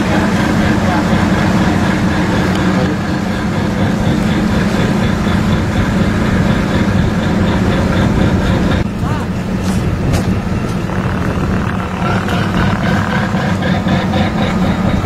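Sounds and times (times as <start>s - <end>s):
tugboat engine running: 0.0s - 15.0s.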